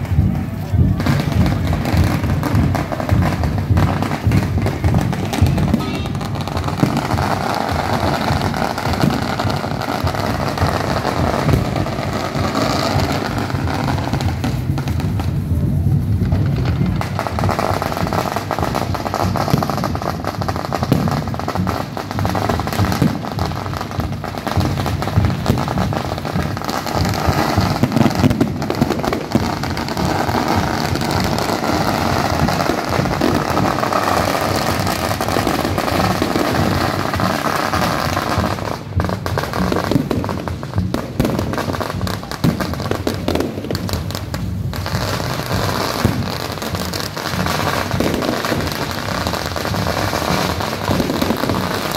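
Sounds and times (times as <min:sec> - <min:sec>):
fireworks and firecrackers bangs: 0:00.0 - 0:51.9.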